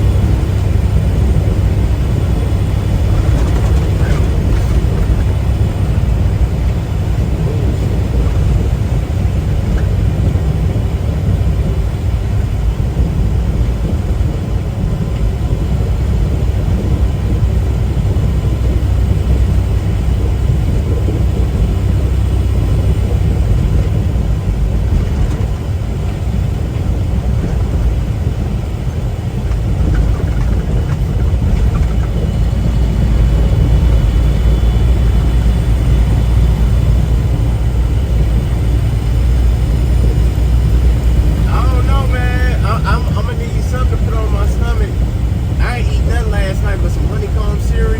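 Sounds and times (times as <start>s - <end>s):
road noise: 0.0s - 47.9s
truck engine drone: 0.0s - 47.9s.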